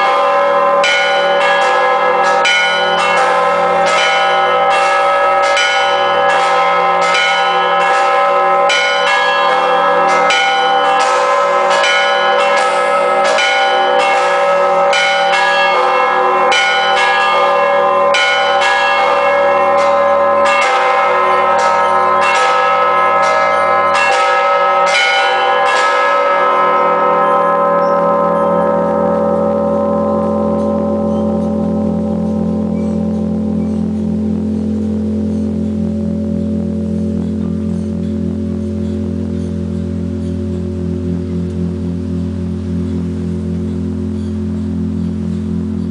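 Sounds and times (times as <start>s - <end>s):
church bells ringing: 0.0s - 45.9s.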